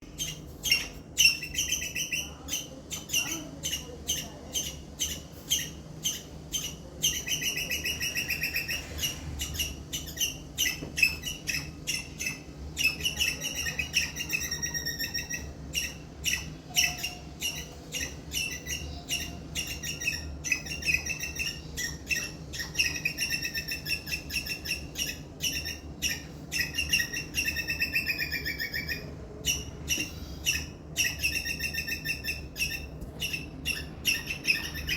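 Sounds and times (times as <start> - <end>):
squirrel chirping and trilling: 0.0 - 34.9.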